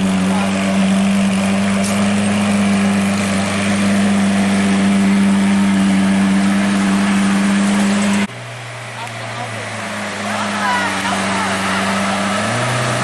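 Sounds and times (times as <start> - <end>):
sports car engine droning: 0.0 - 13.0.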